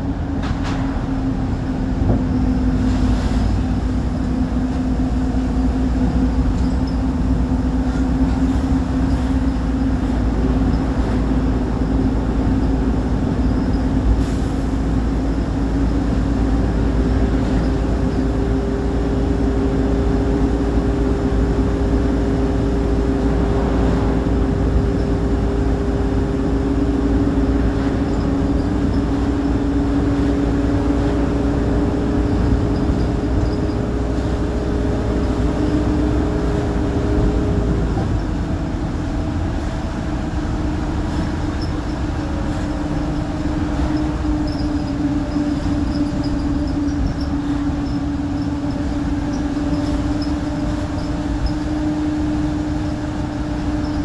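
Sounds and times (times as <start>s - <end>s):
bus engine drone with whine: 0.0s - 54.0s
road rumble: 0.0s - 54.0s.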